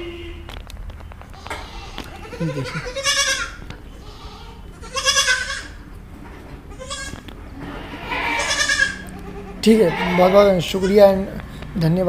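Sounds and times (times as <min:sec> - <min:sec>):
goat kids bleating: 0:01.2 - 0:06.0, 0:06.6 - 0:11.8.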